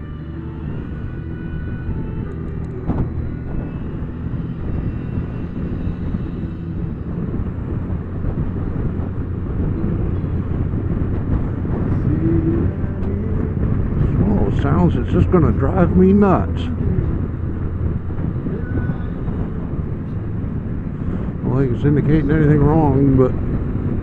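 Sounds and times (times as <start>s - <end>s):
motorcycle engine and wind rumble: 0.0s - 24.0s.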